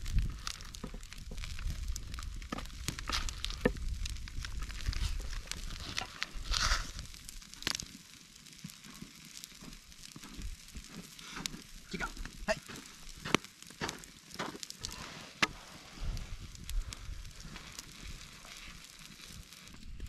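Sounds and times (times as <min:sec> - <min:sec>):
campfire crackling and popping: 0:00.0 - 0:20.0
fish sizzling on a grill: 0:00.0 - 0:20.0.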